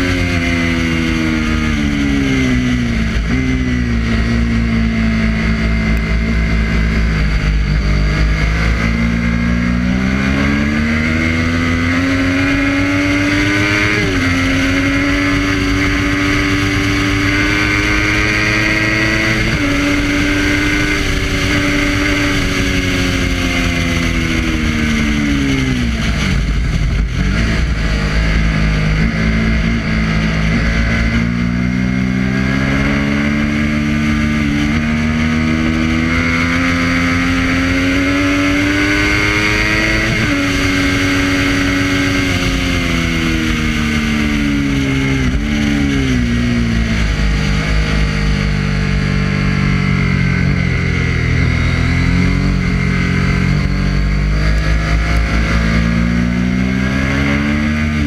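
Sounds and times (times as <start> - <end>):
motorcycle engine revving: 0.0 - 58.0
wind rush: 9.7 - 58.0.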